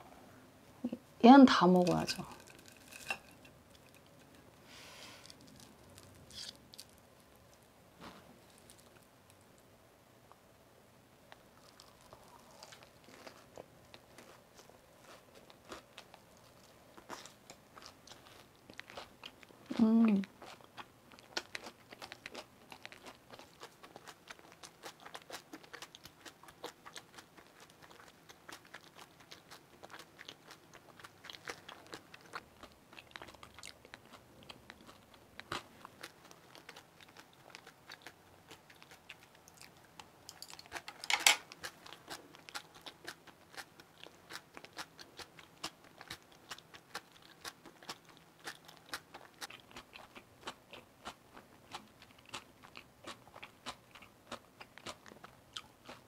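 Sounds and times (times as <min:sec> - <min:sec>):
chewing crispy pancake crunches: 0:02.1 - 0:04.4, 0:05.2 - 0:07.6, 0:08.4 - 0:09.4, 0:11.3 - 0:56.0.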